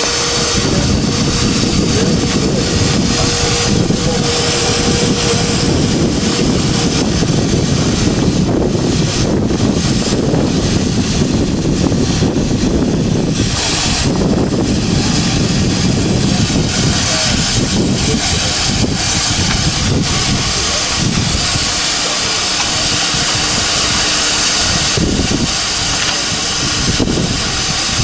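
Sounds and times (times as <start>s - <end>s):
bright steam hiss: 0.0s - 28.0s
steam escaping with loud roar: 0.0s - 28.0s.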